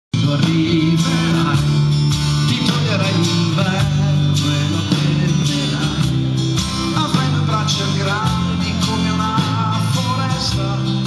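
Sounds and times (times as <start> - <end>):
live pop band playing: 0.1 - 11.0
man singing: 0.1 - 11.0
strummed acoustic guitar: 0.2 - 11.0.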